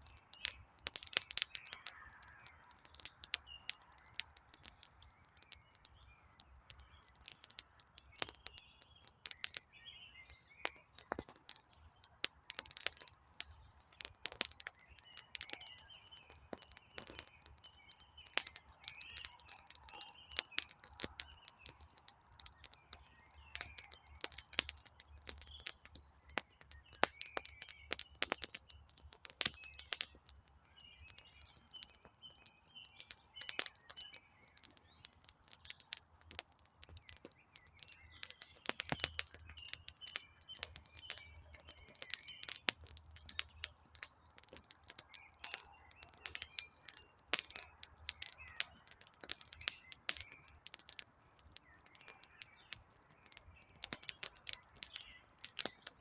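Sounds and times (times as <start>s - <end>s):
campfire crackling: 0.0s - 56.0s
small birds chirping: 0.0s - 56.0s.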